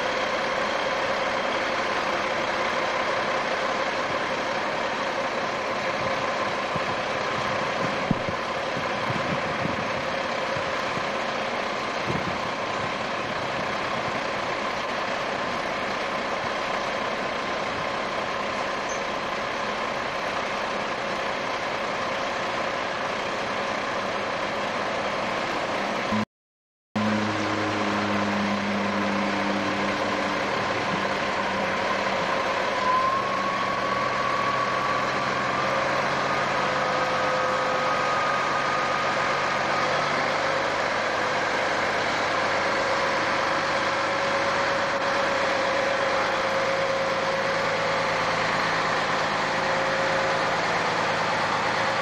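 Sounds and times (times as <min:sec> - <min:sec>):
diesel truck engine idling: 0:00.0 - 0:26.2, 0:27.0 - 0:52.0.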